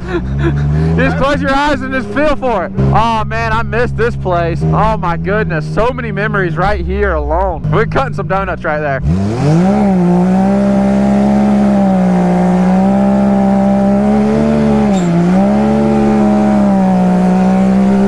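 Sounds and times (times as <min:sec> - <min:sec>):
engine at high revs: 0:00.0 - 0:18.0.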